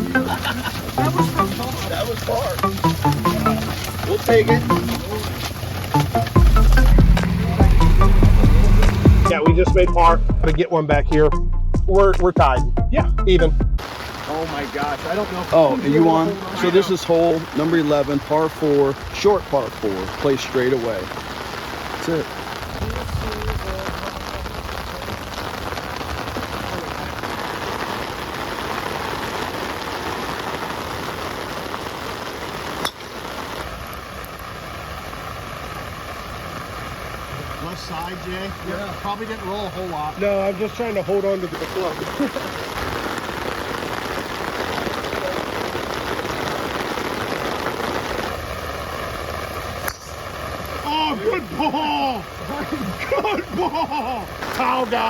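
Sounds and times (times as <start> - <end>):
heavy rain falling: 0.0 - 10.7, 12.0 - 55.0.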